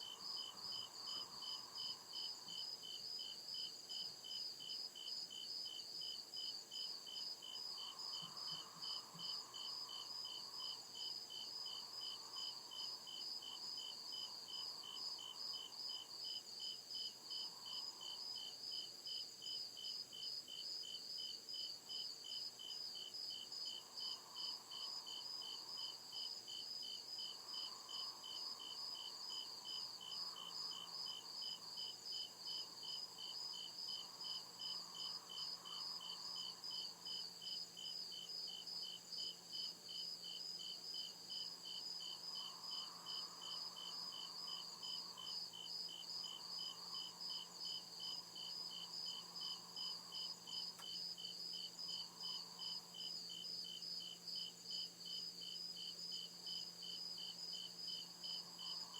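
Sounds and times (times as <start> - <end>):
crickets chirping: 0.0 - 58.9
low insect hum: 0.0 - 58.9.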